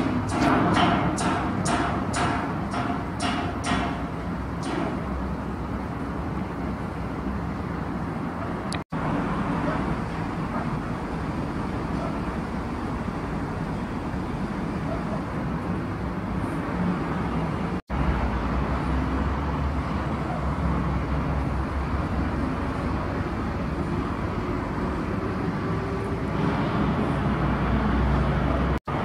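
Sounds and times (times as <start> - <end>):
distant city traffic: 0.0 - 29.0.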